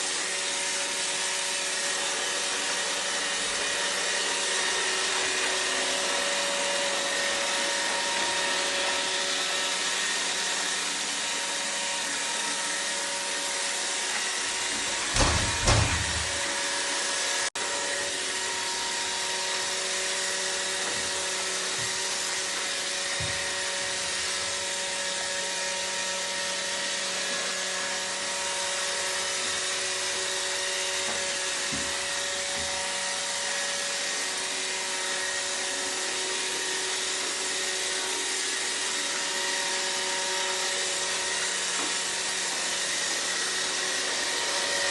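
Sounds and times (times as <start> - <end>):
robot vacuum whirring: 0.0 - 44.9.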